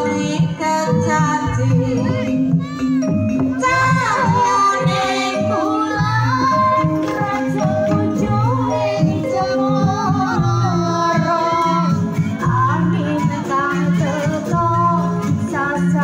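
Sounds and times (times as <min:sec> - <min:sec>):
person singing: 0:00.0 - 0:16.0
low drums beating: 0:00.2 - 0:13.4.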